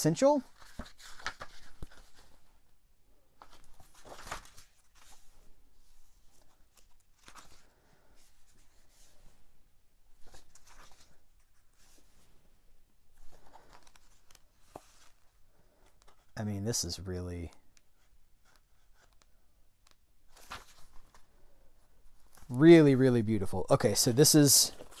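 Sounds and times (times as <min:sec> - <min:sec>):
book pages rustling: 0:00.5 - 0:02.6, 0:03.3 - 0:09.5, 0:10.1 - 0:12.4, 0:13.1 - 0:16.4, 0:17.6 - 0:22.6, 0:23.8 - 0:25.0.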